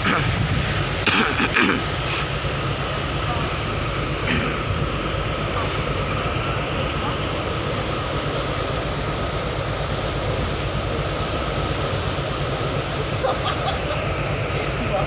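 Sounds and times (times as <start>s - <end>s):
rushing wake water: 0.0s - 15.0s
ship engine rumble: 0.0s - 15.0s.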